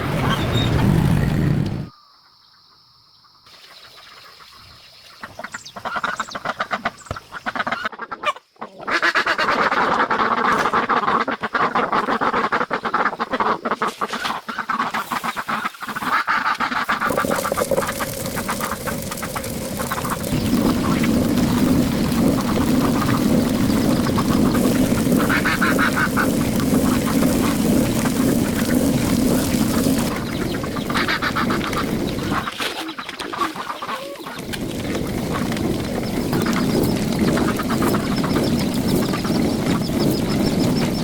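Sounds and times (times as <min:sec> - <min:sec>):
ducks quacking: 0:05.2 - 0:41.0.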